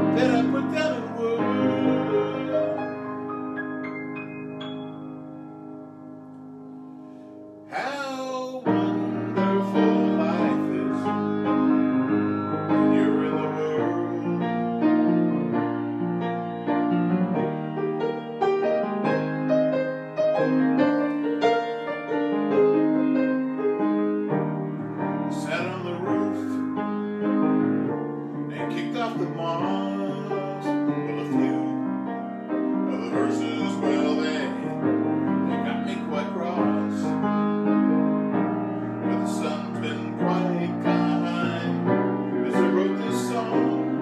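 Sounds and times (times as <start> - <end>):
solo piano playing: 0.0 - 44.0.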